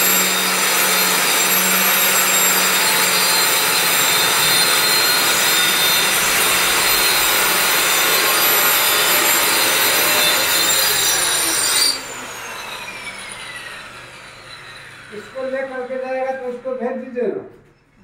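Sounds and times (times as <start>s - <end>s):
power tool cutting and whining: 0.0s - 16.7s
power tool spinning down: 0.0s - 17.0s.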